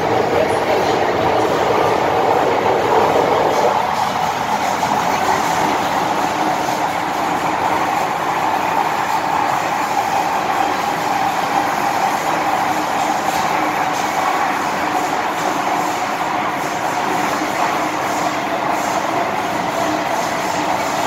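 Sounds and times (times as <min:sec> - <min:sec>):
train wheels on rail: 0:00.0 - 0:17.8
train motors: 0:00.0 - 0:21.0.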